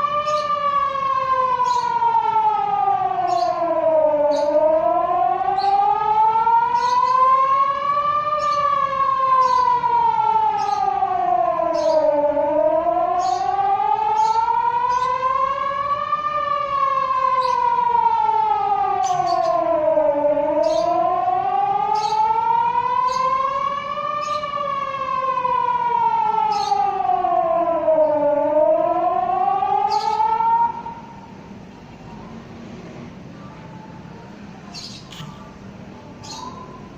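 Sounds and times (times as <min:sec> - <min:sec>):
warning siren wailing: 0:00.0 - 0:36.9.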